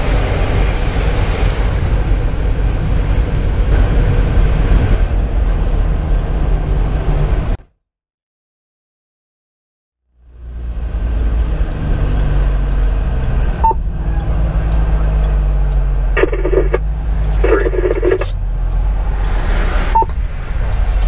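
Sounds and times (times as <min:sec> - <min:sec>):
diesel engine running: 0:00.0 - 0:07.6, 0:10.2 - 0:21.0
road noise: 0:00.0 - 0:07.6, 0:10.1 - 0:21.0.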